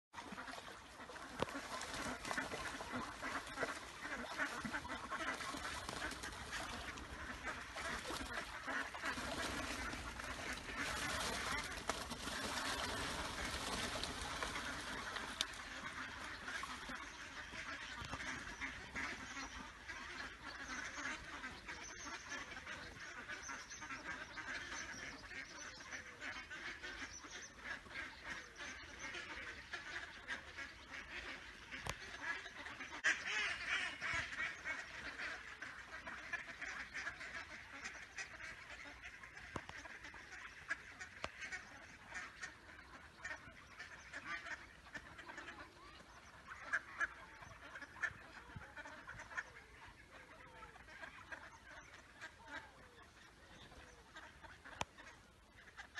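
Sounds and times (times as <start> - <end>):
ducks quacking: 0.2 - 55.9.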